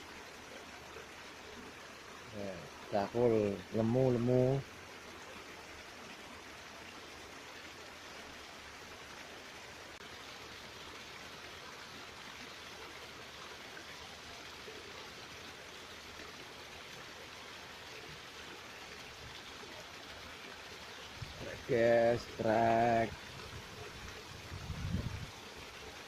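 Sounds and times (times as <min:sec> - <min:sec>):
stream water flowing: 0:00.0 - 0:26.0.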